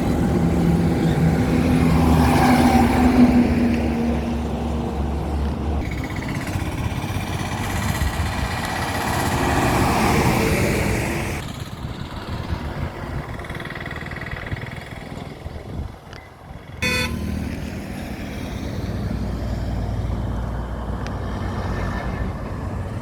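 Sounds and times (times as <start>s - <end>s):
highway traffic passing: 0.0s - 23.0s.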